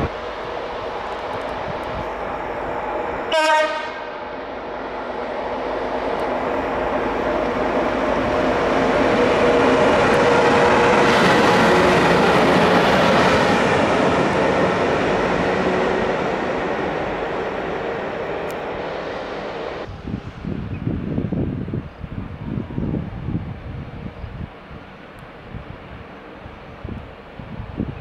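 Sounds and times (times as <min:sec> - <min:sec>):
electric locomotive passing: 0:00.0 - 0:28.0.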